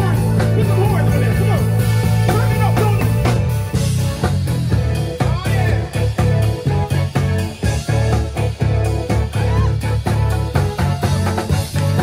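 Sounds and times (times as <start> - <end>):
bass line: 0.0 - 12.0
live band playing a groove: 0.0 - 12.0.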